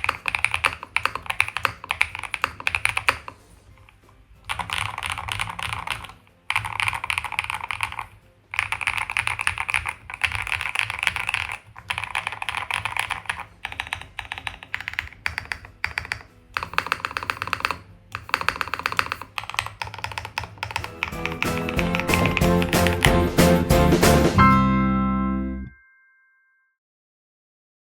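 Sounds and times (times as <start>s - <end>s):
fast typing on mechanical keyboard: 0.0s - 3.4s, 4.4s - 23.6s.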